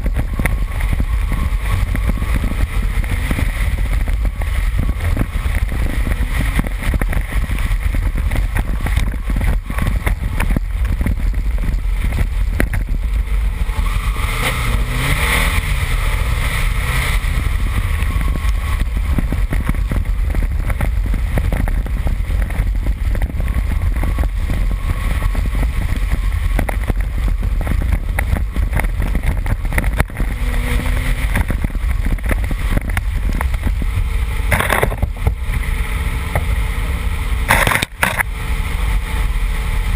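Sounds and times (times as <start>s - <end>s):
car engine revving: 0.0s - 39.9s
wind buffeting microphone: 0.0s - 39.9s.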